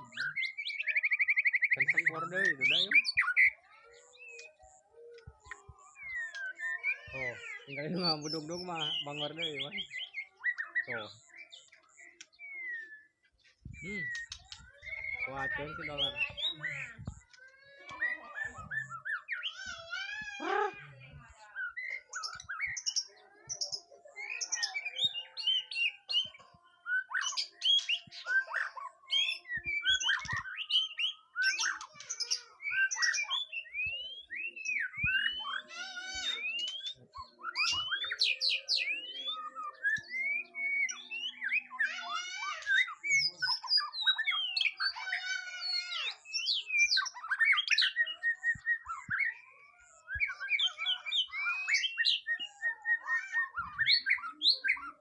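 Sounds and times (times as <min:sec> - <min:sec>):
bird singing whistled phrases: 0:00.0 - 0:04.8, 0:05.5 - 0:21.0, 0:21.6 - 0:45.0, 0:45.6 - 0:55.0.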